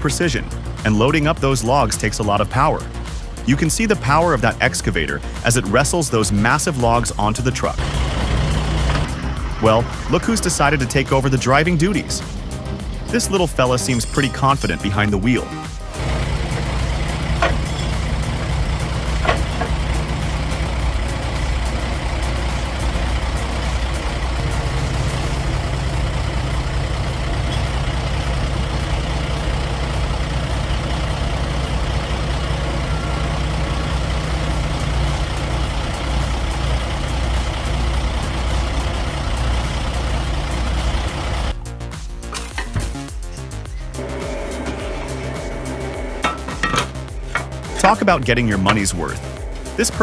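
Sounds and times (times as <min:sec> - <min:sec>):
truck engine droning: 0:00.0 - 0:50.0.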